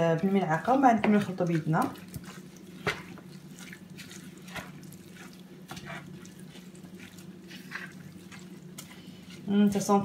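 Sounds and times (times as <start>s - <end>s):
hands squelching wet stuffing: 0.0s - 10.0s.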